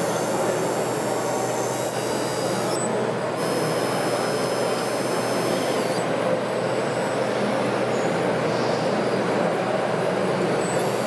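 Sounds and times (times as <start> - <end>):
model machinery whirring: 0.0 - 11.0.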